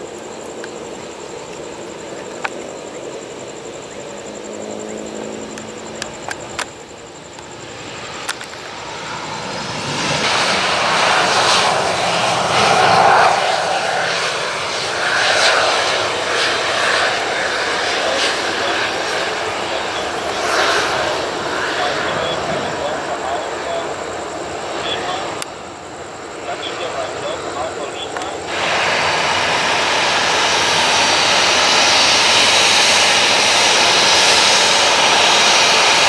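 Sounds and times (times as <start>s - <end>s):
jet engine hum: 0.0s - 36.0s
jet engine roar: 0.0s - 36.0s.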